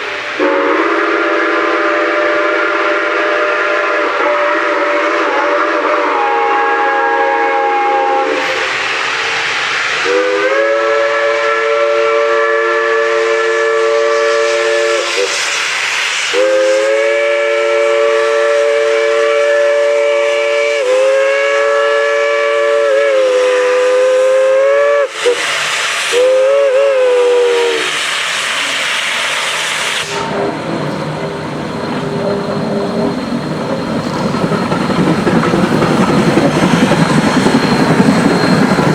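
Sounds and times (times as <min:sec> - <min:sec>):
steam locomotive chime whistle: 0:00.0 - 0:09.1, 0:10.0 - 0:38.9
steam hissing: 0:00.0 - 0:38.9.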